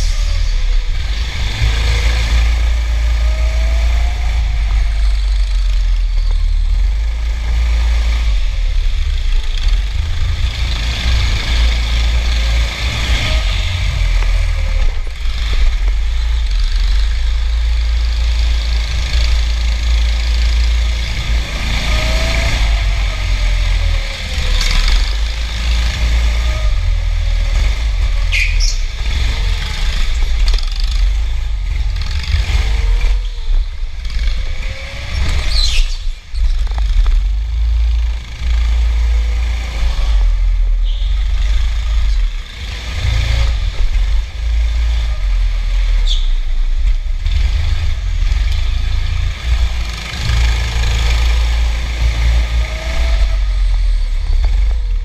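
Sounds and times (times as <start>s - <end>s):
go-kart motor: 0.0s - 55.0s.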